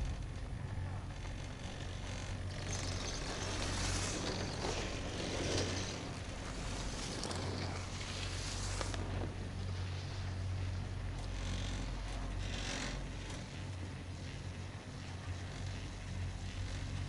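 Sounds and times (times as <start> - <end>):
chairlift low hum: 0.0 - 17.0.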